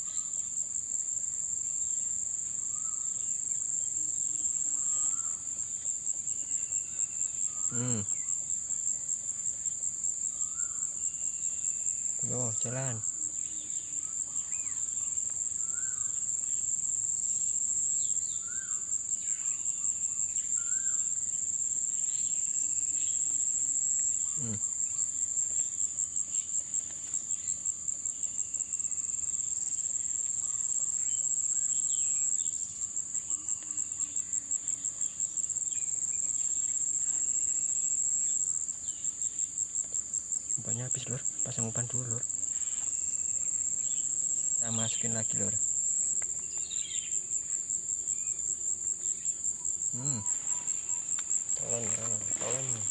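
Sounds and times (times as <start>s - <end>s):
high-pitched insect chorus: 0.0s - 52.9s
faint chirps: 1.8s - 52.9s.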